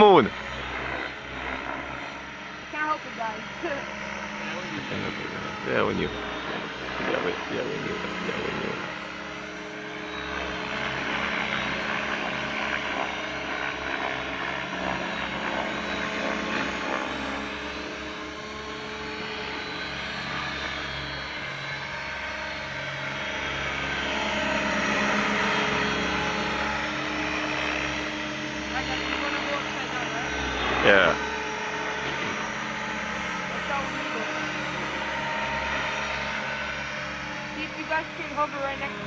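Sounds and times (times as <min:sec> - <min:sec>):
helicopter rotors whining: 0:00.0 - 0:39.0.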